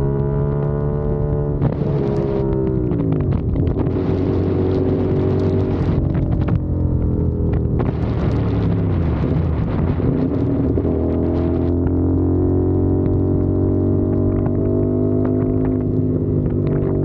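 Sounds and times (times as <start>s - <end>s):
motorcycle engine and exhaust: 0.0s - 17.0s
wind noise on microphone: 0.0s - 17.0s.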